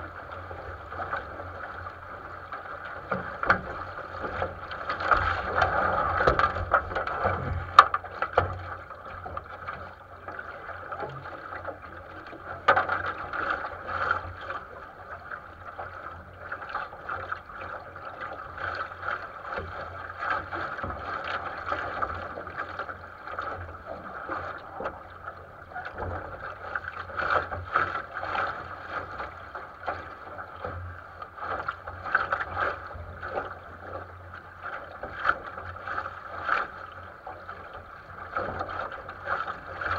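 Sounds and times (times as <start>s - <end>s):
water rushing against a boat hull: 0.0s - 39.9s
water splashes: 0.0s - 39.9s.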